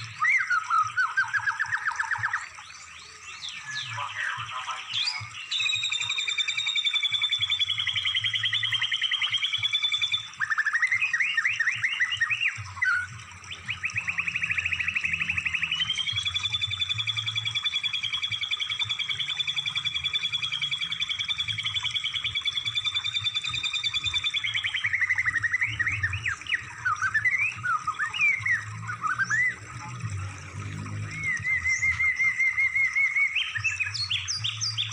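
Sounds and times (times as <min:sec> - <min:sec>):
songbird trills: 0:00.0 - 0:34.9.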